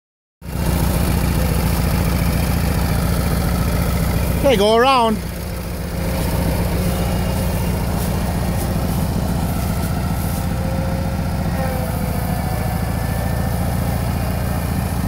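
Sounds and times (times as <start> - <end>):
garden tractor engine running: 0.4 - 15.0.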